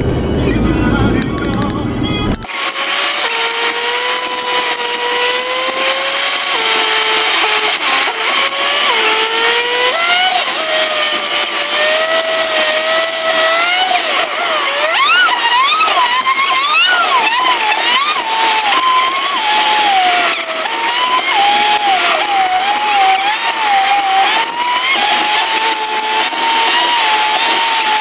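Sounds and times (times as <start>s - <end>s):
car engine revving through gears: 0.0s - 28.0s.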